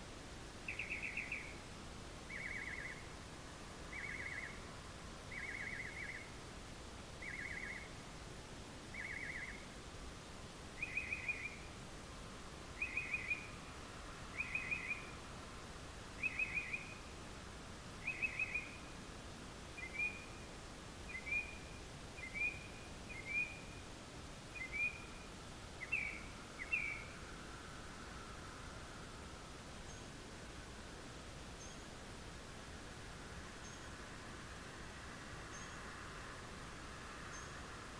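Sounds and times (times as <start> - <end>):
faint steady hiss: 0.0 - 37.9.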